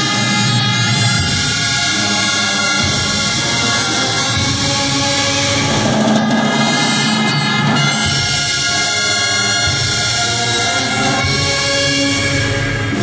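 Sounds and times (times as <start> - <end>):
wind band playing funeral march: 0.0 - 13.0.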